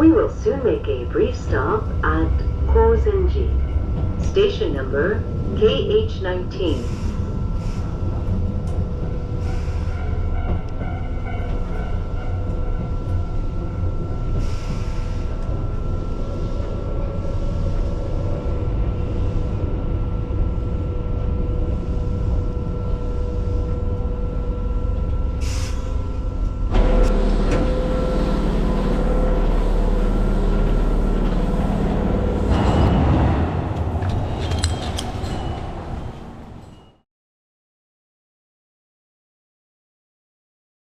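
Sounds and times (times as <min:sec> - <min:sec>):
train hum: 0:00.0 - 0:37.0
train rumble from inside: 0:00.0 - 0:37.0.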